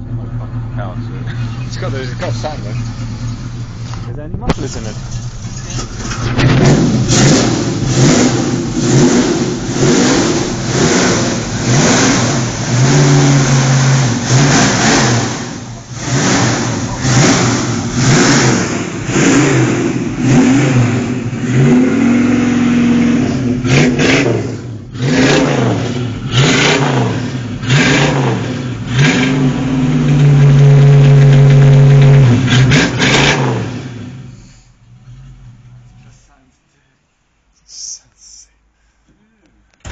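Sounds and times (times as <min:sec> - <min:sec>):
car engine revving: 0:00.0 - 0:36.1.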